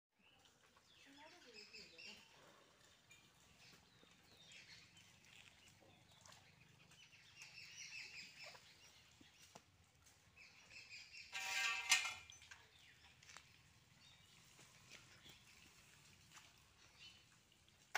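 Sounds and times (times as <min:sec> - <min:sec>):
birds chirping and calling: 0:00.2 - 0:17.5.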